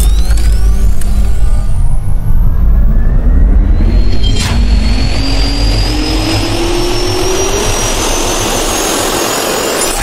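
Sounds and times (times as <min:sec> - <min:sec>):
jet turbine whine rising: 0:00.0 - 0:10.0
low rumble: 0:00.0 - 0:10.0.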